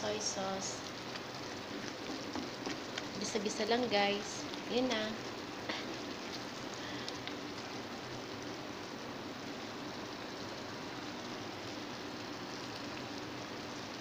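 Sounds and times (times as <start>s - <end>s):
sauce bubbling in a frying pan: 0.0s - 14.0s.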